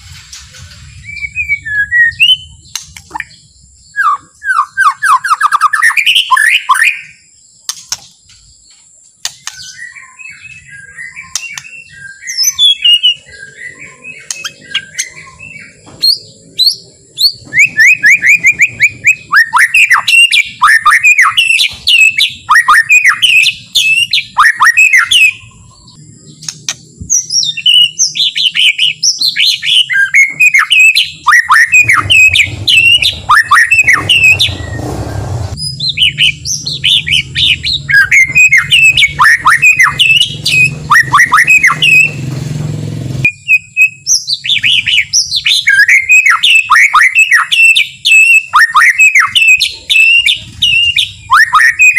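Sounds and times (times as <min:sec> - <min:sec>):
bird singing whistled notes: 0:00.7 - 0:42.2, 0:43.2 - 0:51.9.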